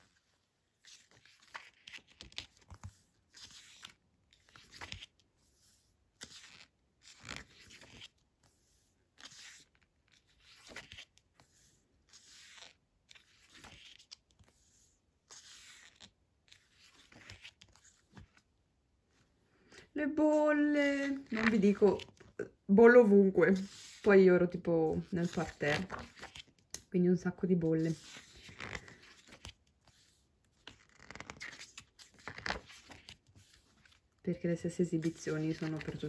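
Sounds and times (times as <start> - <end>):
photobook pages turning: 0.1 - 22.4, 23.0 - 36.0.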